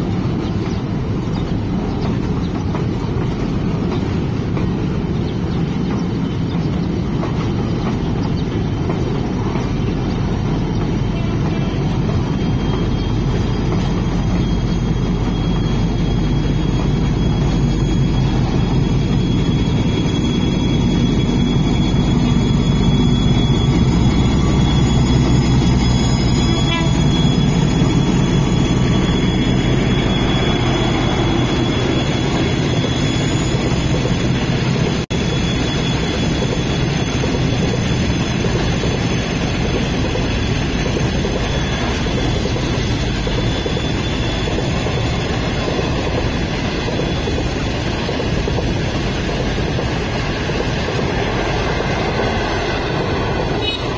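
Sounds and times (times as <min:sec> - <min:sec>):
diesel locomotive engine drone: 0:00.0 - 0:53.9
high steady squeal: 0:00.0 - 0:53.9
train wheels rumbling on rails: 0:00.0 - 0:53.9.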